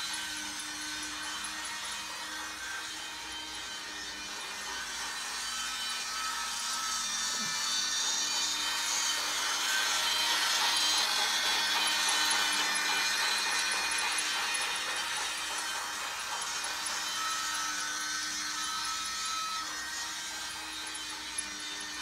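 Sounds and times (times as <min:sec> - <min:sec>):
toy train whirring and rattling: 0:00.0 - 0:22.0.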